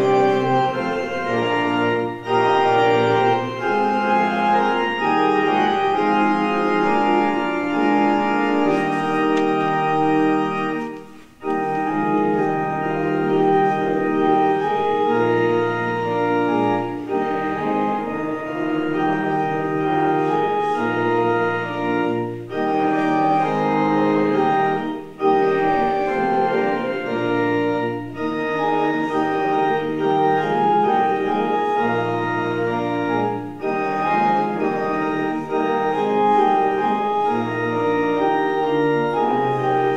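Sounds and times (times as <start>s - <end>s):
church organ playing chords: 0.0s - 39.9s.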